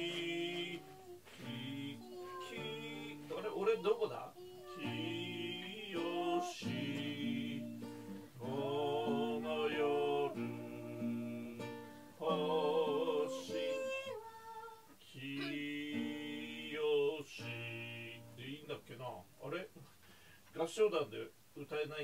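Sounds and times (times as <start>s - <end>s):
man and woman singing a hymn: 0.0s - 18.6s.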